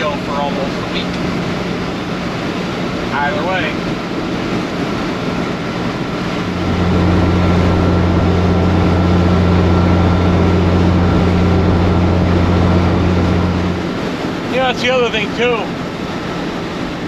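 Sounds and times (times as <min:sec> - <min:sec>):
diesel truck engine and road noise: 0:00.0 - 0:17.0
low engine drone: 0:00.0 - 0:17.0.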